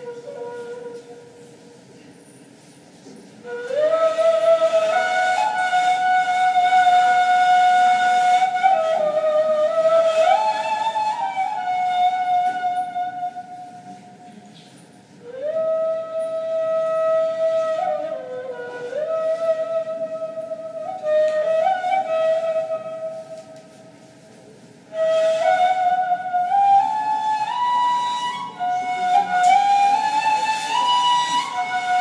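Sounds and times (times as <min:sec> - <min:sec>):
cane flute playing slow melody: 0:00.0 - 0:01.8, 0:03.4 - 0:14.4, 0:15.2 - 0:32.0.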